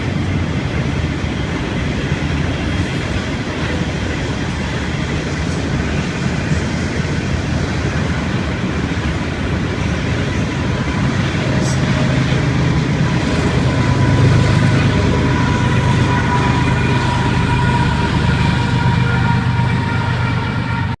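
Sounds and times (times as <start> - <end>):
high whine: 0.0 - 21.0
train passing rumble: 0.0 - 21.0.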